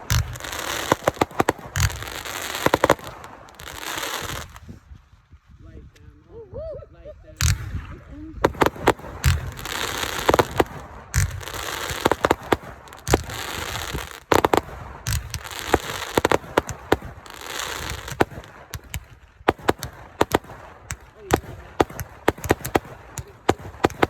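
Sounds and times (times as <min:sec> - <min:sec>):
fireworks cracks and bangs: 0:00.0 - 0:04.8, 0:07.4 - 0:24.0
fireworks crackling hiss: 0:00.0 - 0:05.0, 0:07.4 - 0:07.8, 0:08.4 - 0:24.0.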